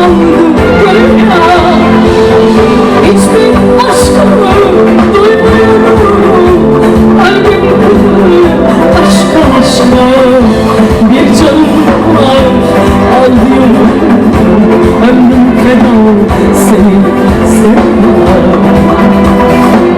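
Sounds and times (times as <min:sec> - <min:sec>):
live pop band playing: 0:00.0 - 0:19.9
woman singing: 0:00.0 - 0:19.9.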